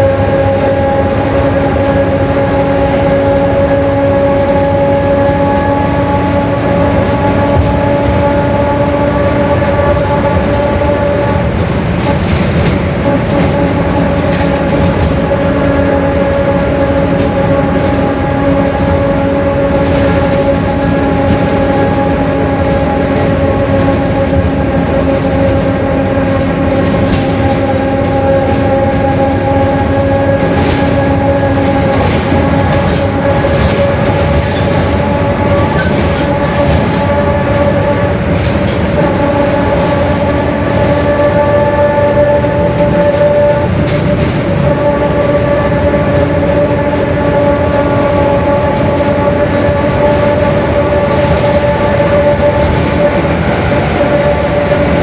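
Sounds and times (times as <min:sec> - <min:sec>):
bus drivetrain whine: 0:00.0 - 0:55.0
diesel engine rumble: 0:00.0 - 0:55.0.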